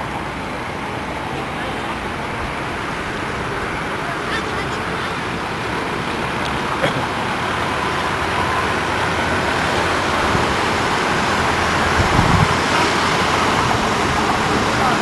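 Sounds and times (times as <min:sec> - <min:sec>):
city road traffic hum: 0:00.0 - 0:15.0
low rumbles: 0:00.0 - 0:15.0.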